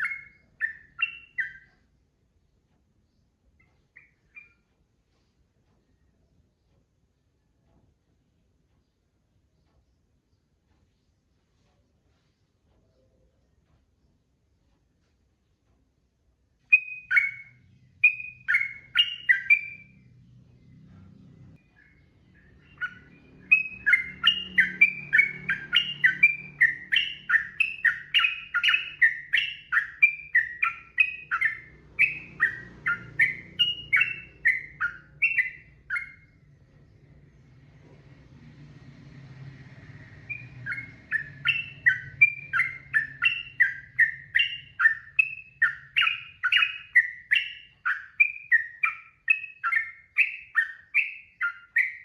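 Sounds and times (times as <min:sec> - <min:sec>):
bird singing: 0:00.0 - 0:07.6, 0:16.6 - 0:52.0
faint low hum: 0:00.0 - 0:52.0.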